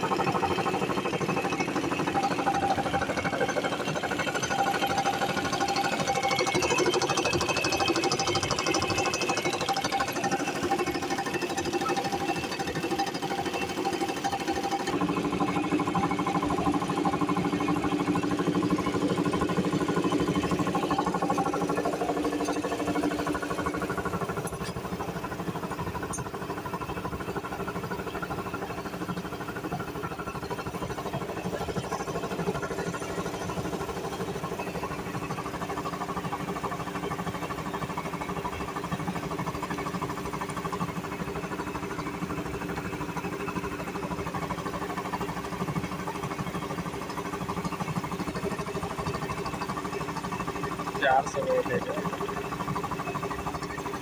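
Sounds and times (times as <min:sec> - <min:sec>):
air compressor running: 0:00.0 - 0:54.0.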